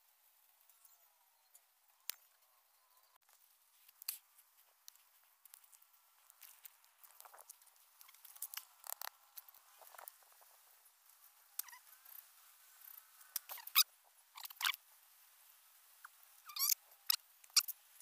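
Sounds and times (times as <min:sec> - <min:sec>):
rustling: 0:03.2 - 0:18.0.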